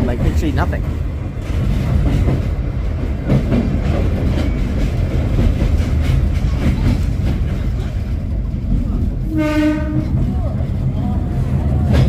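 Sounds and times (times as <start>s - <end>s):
train carriage rumbling on rails: 0.0s - 12.0s.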